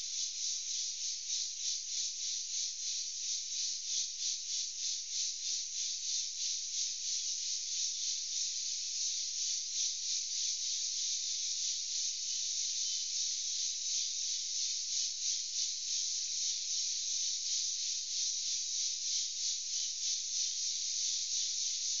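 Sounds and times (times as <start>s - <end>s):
insects buzzing in chorus: 0.0s - 22.0s.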